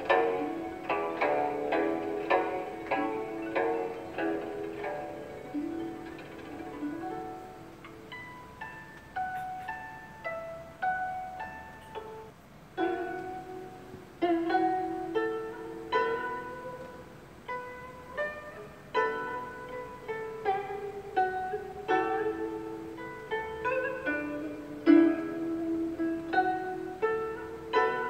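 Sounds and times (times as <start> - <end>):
plucked string melody: 0.0 - 28.0.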